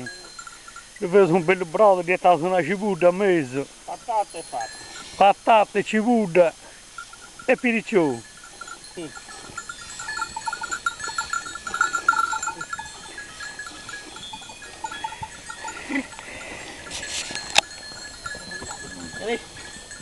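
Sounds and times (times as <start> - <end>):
sheep bells clinking: 0.0 - 20.0.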